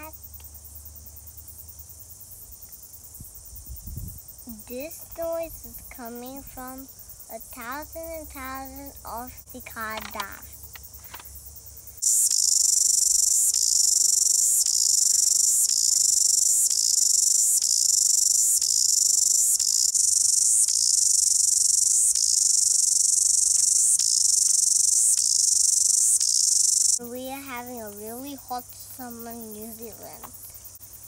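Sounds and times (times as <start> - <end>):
cicadas buzzing: 0.0 - 31.0.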